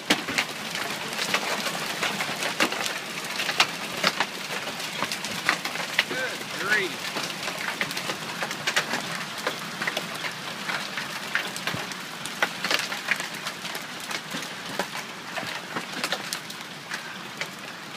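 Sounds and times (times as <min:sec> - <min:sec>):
hail falling: 0:00.0 - 0:17.9
hailstones striking hard surfaces: 0:00.0 - 0:17.9.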